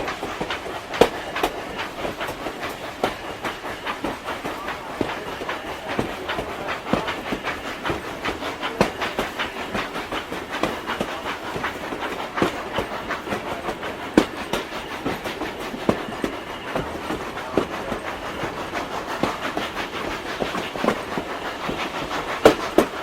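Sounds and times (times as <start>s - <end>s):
steady steam hiss: 0.0s - 23.0s
steam train chugging: 0.0s - 23.0s
wheels clacking over rail joints: 0.0s - 23.0s.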